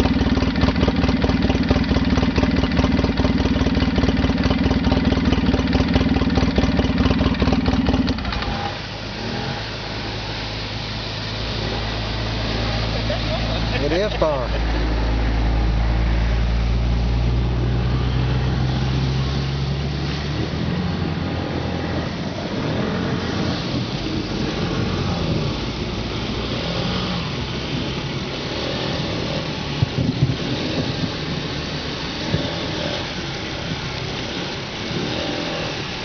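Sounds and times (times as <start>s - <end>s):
atv engine under load: 0.0s - 36.0s.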